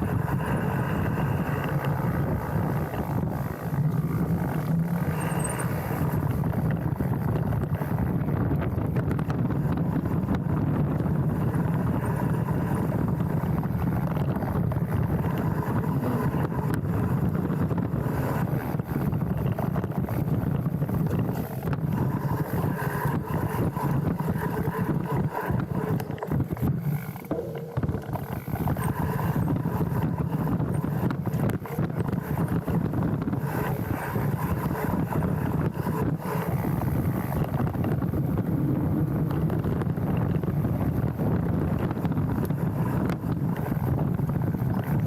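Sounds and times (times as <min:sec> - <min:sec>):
bike rattling and knocking: 0:00.0 - 0:45.0
tyres rumbling on dirt: 0:00.0 - 0:45.0
wind: 0:00.0 - 0:45.0.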